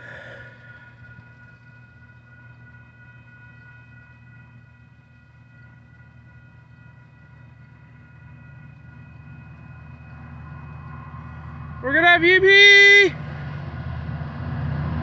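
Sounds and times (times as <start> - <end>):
diesel locomotive rumble: 0.0 - 15.0
high multi-tone whine: 0.0 - 15.0.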